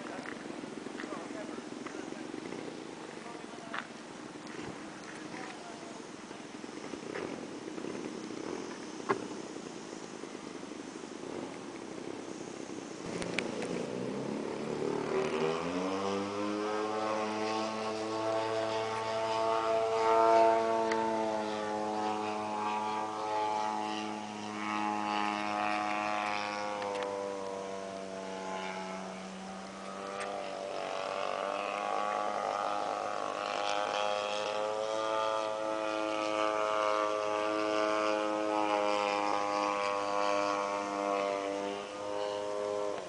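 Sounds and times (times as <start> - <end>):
propeller engine droning: 0.0 - 43.0.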